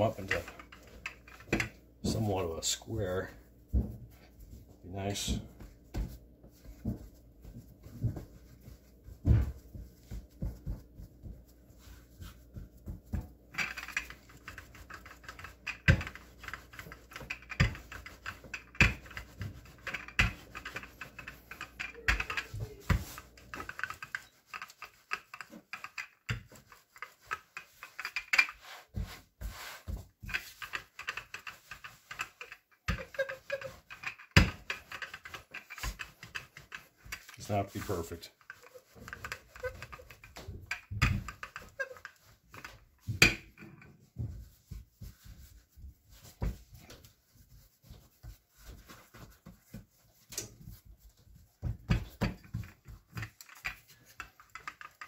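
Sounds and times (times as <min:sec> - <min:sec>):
hands patting dough: 0:00.0 - 0:55.0
rolling pin rolling dough: 0:00.0 - 0:55.0.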